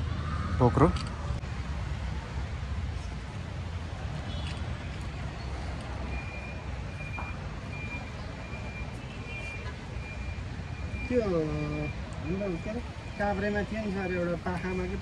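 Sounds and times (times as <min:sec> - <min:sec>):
low rumble of city traffic: 0:00.0 - 0:15.0.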